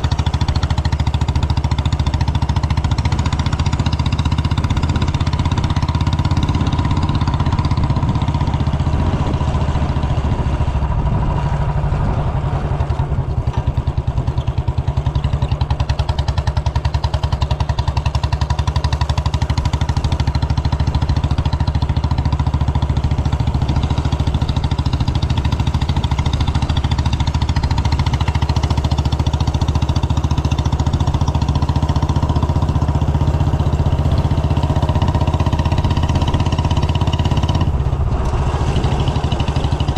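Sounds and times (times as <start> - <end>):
motorcycle engine thumping: 0.0 - 39.9.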